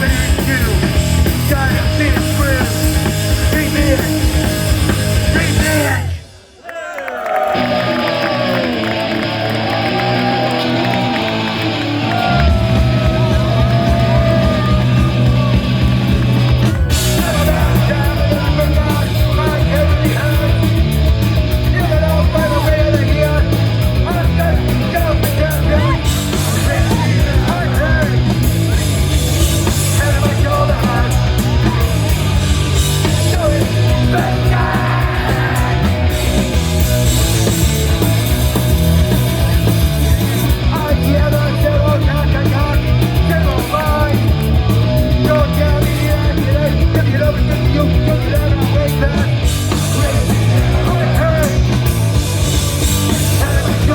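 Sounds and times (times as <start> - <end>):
bass and drums: 0.0 - 6.5, 7.5 - 53.9
guitar: 0.0 - 6.5, 7.5 - 53.9
shouted vocals: 0.0 - 20.7, 21.6 - 53.9.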